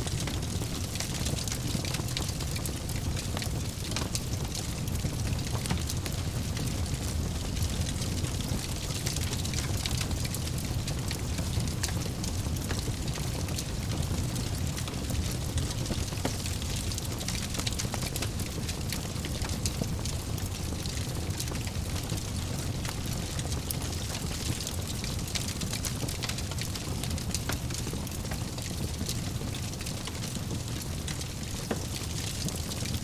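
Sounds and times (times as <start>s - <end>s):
fire crackling and popping: 0.0s - 33.0s
fire flames rumbling: 0.0s - 33.0s.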